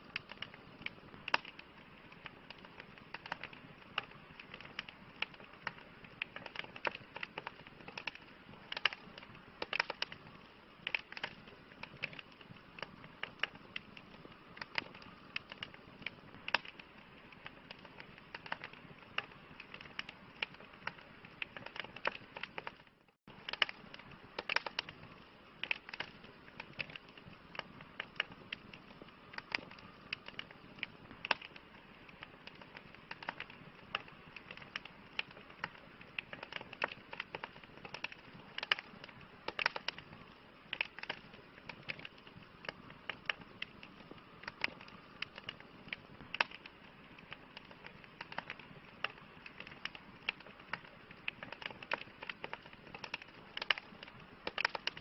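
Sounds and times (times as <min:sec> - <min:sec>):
burning wood popping: 0:00.0 - 0:55.0
soft hiss of flames: 0:00.0 - 0:55.0.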